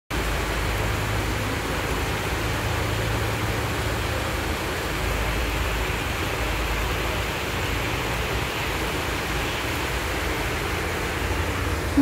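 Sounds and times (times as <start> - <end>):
heavy rain pouring: 0.1 - 12.0
water running over a road: 0.1 - 12.0.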